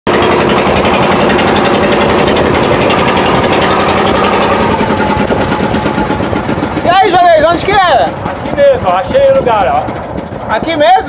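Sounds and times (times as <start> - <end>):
boat motor chattering: 0.1 - 11.0.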